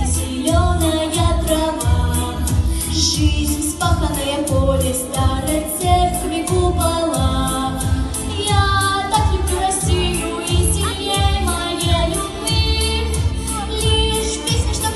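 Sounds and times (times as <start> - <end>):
pop backing track: 0.0 - 14.9.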